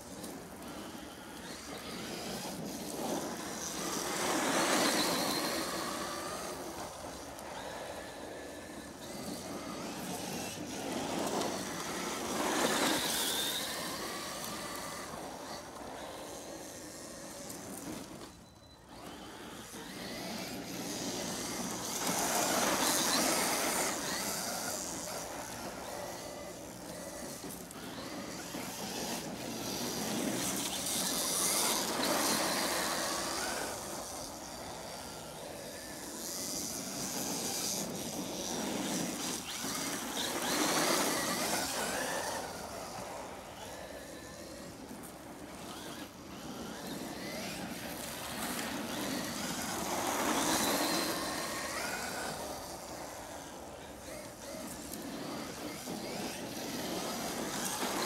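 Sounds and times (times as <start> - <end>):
rc truck motor whine: 0.0 - 58.0.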